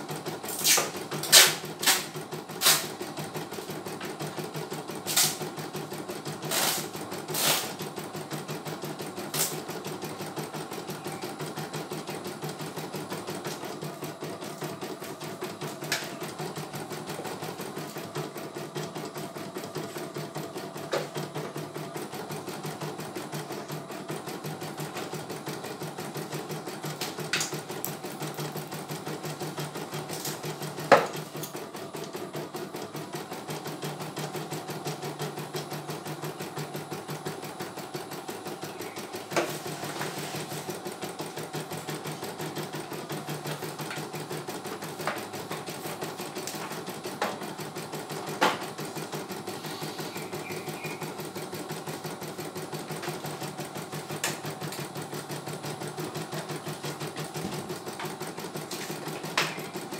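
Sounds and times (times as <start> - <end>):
embroidery machine stitching: 0.0 - 59.9.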